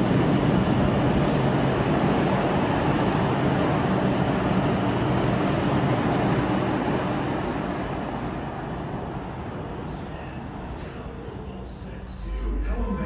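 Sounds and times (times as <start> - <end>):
subway train wheels on rails: 0.0 - 13.0.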